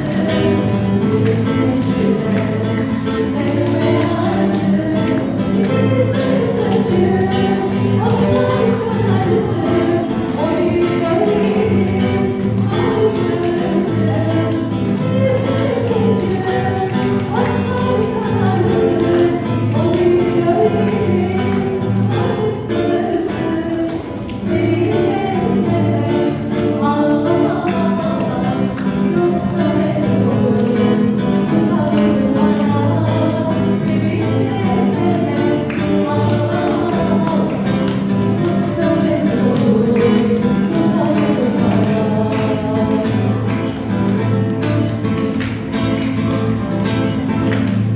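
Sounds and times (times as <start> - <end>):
person singing: 0.0 - 45.4.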